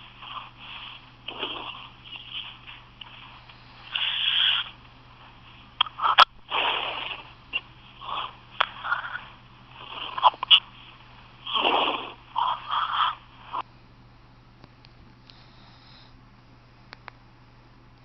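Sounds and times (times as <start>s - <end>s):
breathy breaths: 0.0s - 13.7s, 15.2s - 16.2s.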